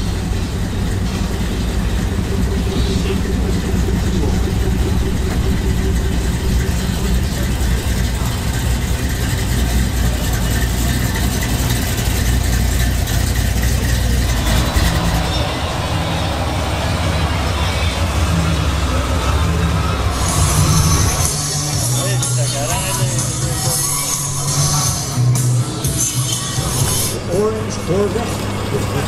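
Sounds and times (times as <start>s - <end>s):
car engine idling: 0.0s - 29.0s
people talking: 0.0s - 29.0s.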